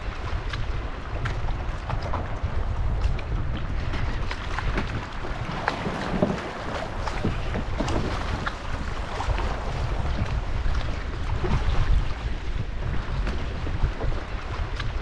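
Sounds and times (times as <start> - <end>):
water splashing around a kayak: 0.0 - 15.0
wind rumble on microphone: 0.0 - 15.0.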